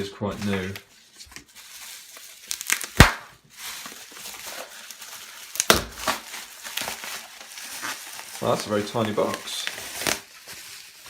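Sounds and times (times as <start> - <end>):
packaging crinkling: 0.4 - 11.0.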